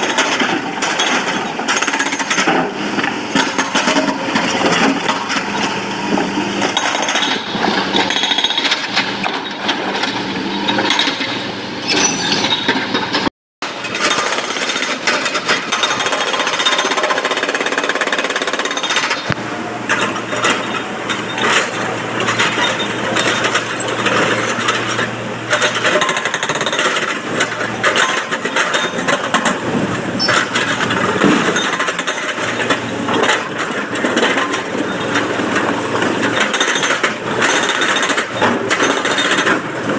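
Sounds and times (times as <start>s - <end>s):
diesel engine running: 0.0s - 39.9s
hydraulic breaker pounding rock: 0.0s - 39.9s.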